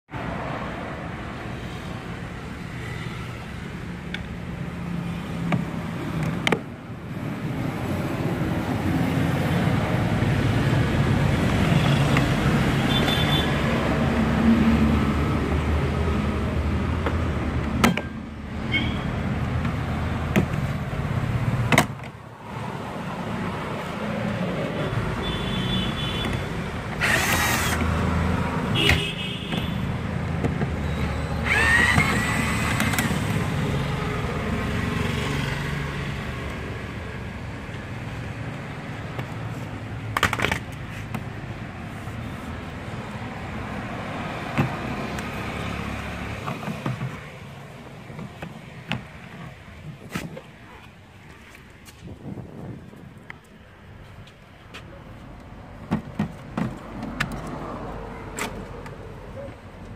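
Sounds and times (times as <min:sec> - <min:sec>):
traffic rumble: 0:00.1 - 0:59.9.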